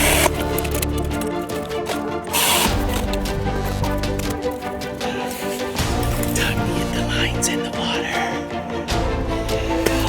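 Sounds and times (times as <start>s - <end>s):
background music of stepped notes: 0.0s - 10.0s.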